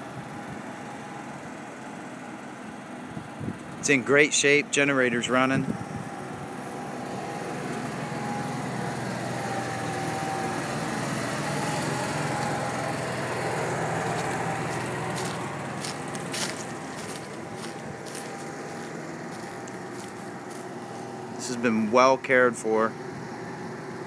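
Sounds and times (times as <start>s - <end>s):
generator engine hum: 0.0s - 24.0s.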